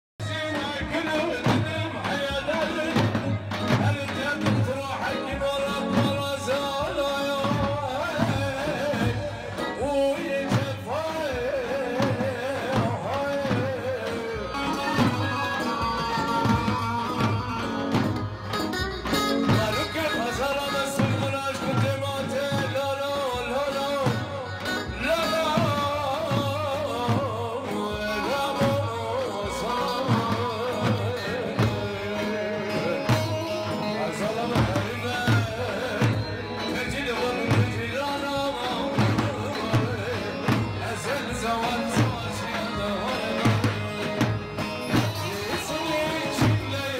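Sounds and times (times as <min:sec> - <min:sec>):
large drum beat: 0:00.2 - 0:46.9
man singing into microphone: 0:00.2 - 0:46.9.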